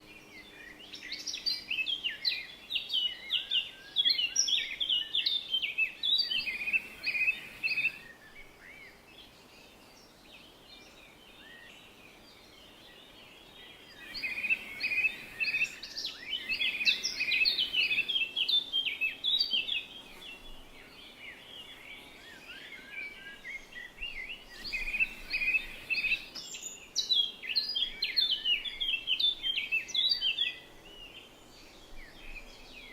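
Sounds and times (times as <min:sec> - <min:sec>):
birds singing: 0:00.0 - 0:32.9.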